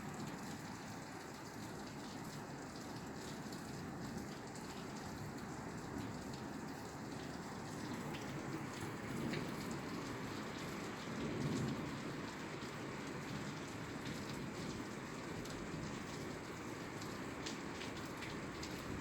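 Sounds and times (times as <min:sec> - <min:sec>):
rain on a roof: 0:00.0 - 0:19.0
raindrop ticks: 0:00.1 - 0:19.0.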